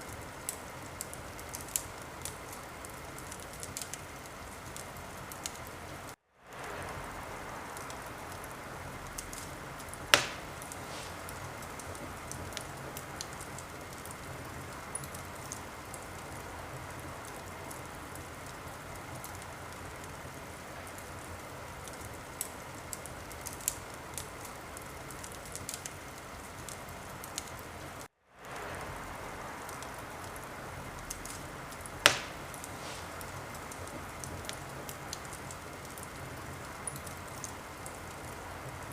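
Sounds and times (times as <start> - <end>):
loud fire pops: 0.0 - 27.6, 28.4 - 38.4
fire crackles: 0.0 - 38.9
fire hissing: 0.0 - 38.9.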